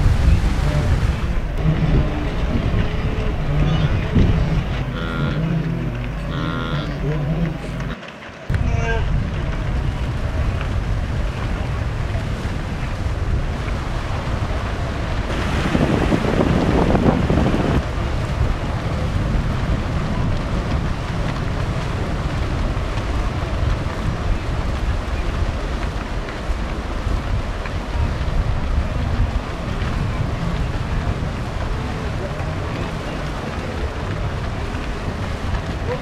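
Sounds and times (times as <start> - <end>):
river water splashing: 0.0 - 36.0
wind rumble on microphone: 0.0 - 36.0.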